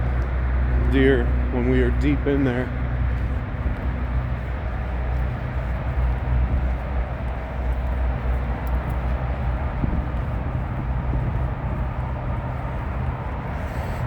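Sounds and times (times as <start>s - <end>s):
distant highway traffic rumble: 0.0s - 14.0s.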